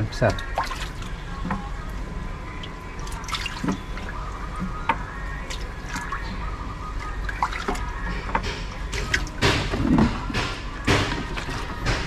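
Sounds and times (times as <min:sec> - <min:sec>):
water dripping and splashing: 0:00.1 - 0:06.4, 0:07.0 - 0:12.0.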